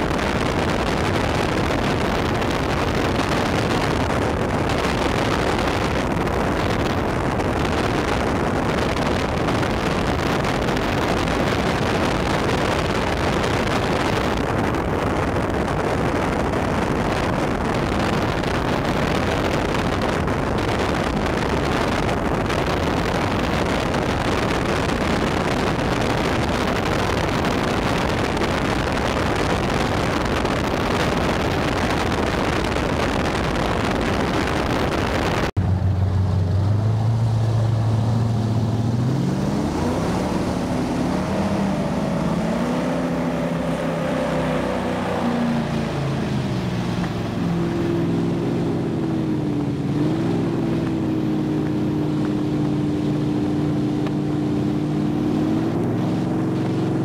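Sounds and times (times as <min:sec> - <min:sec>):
motorboats running: 0:00.0 - 0:57.0
wind buffeting microphone: 0:00.0 - 0:57.0.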